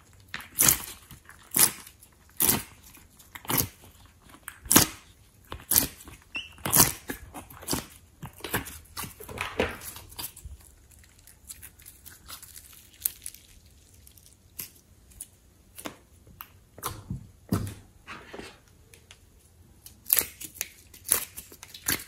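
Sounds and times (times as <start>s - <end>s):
slime squishing: 0.0s - 17.8s, 19.9s - 22.0s.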